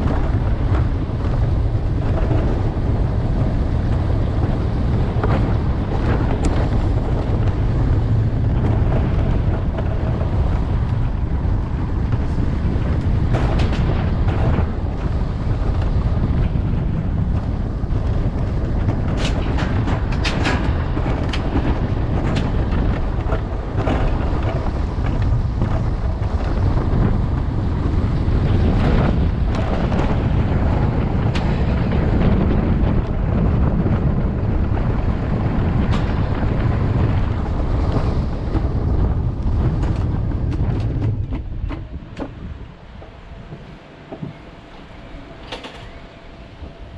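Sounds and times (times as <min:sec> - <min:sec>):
coaster sled rumbling on rail: 0:00.0 - 0:46.9
sled clicks and rattles: 0:00.0 - 0:46.9
wind buffeting microphone: 0:00.0 - 0:46.9.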